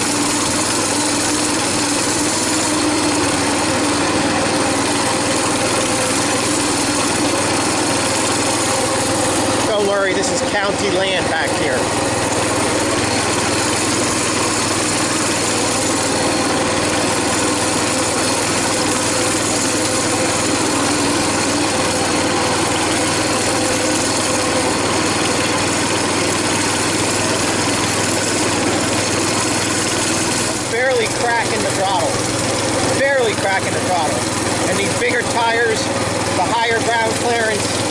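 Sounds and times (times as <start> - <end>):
mini bike engine running: 0.0 - 37.9.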